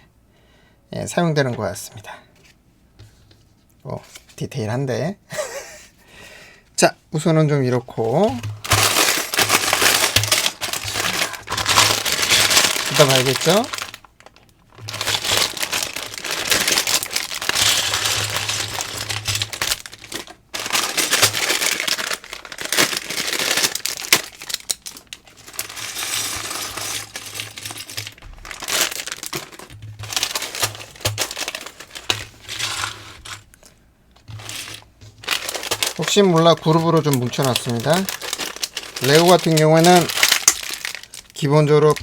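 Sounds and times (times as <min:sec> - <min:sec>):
plastic bags crinkling: 0:08.0 - 0:42.0.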